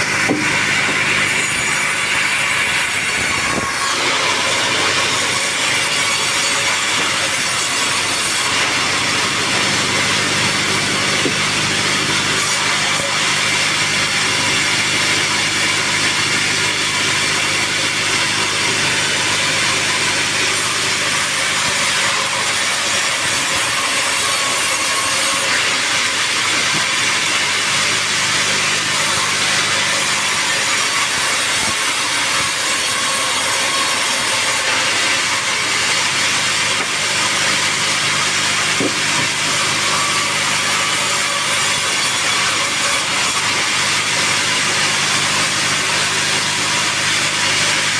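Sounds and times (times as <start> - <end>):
saw cutting through log: 0.0 - 47.9
saw motor hum: 0.0 - 47.9.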